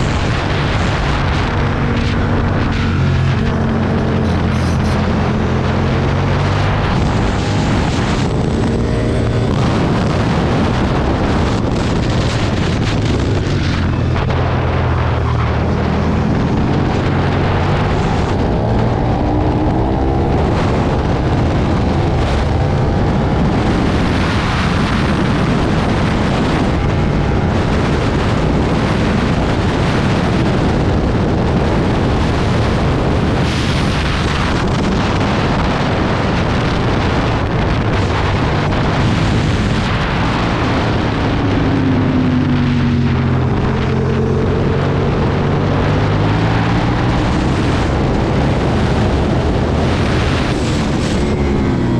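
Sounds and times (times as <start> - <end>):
motorcycle engine revving: 0.0 - 51.9
wind on microphone: 0.0 - 51.9.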